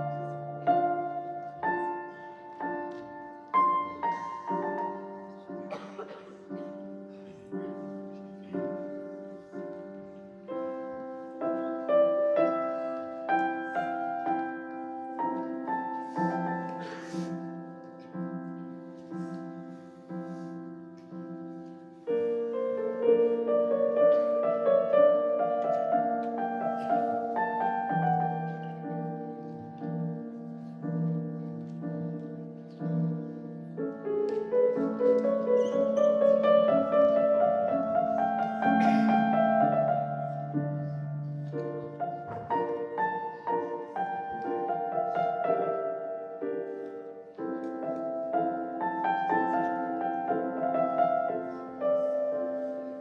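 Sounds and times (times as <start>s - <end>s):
piano music with repeated chords: 0.0s - 53.0s.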